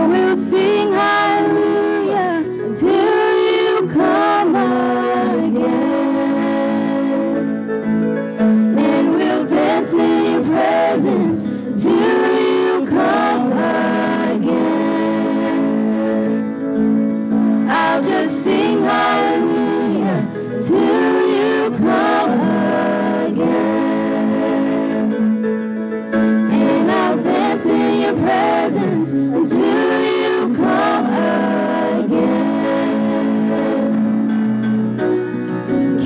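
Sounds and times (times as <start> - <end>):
vocal group singing in harmony: 0.0 - 7.7, 8.4 - 25.5, 26.2 - 34.6
grand piano accompaniment: 0.0 - 36.0.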